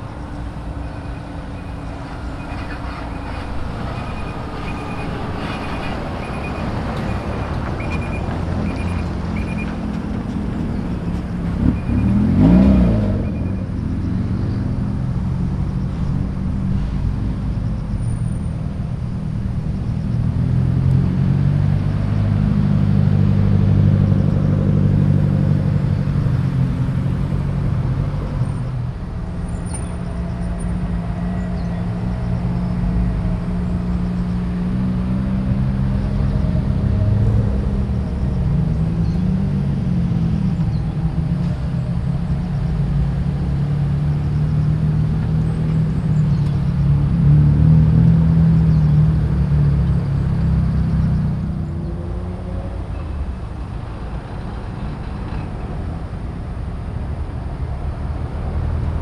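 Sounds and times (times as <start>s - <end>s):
car engines rumbling past: 0.0s - 59.0s.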